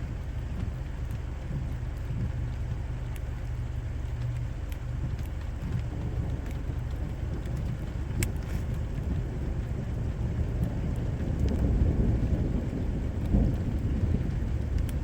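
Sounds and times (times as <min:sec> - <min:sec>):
heavy rain: 0:00.0 - 0:15.0
low continuous rumble: 0:00.0 - 0:15.0.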